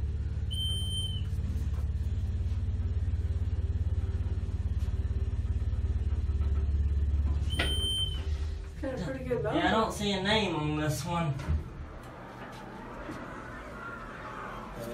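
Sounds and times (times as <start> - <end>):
elevator hum and rumble: 0.0 - 14.9.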